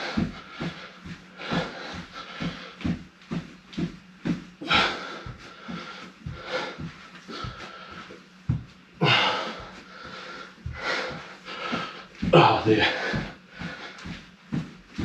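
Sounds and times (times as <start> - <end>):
man breathing hard and wheezing: 0.0 - 15.0.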